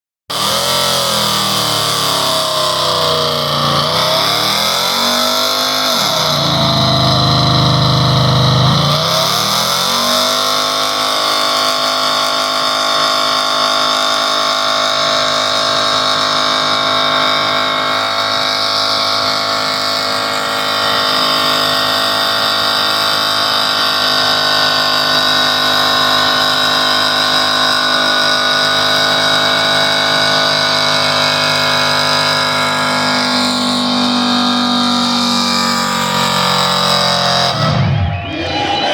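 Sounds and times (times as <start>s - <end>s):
pickup truck engine revving: 0.3s - 38.9s.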